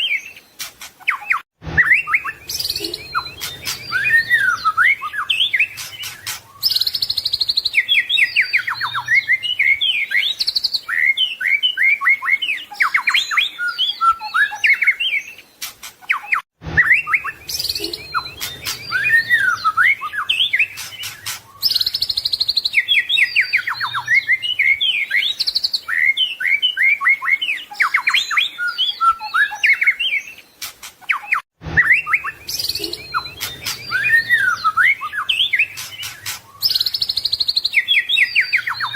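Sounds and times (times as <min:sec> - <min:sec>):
bird singing whistled song: 0:00.0 - 0:38.9.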